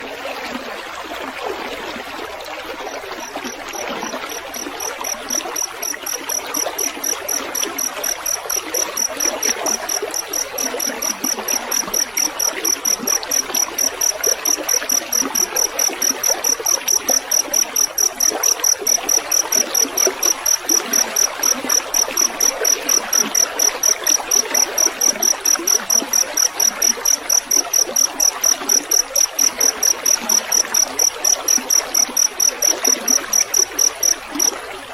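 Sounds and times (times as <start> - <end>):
trickle of running water: 0.0 - 34.9
cricket chirping: 2.8 - 34.8.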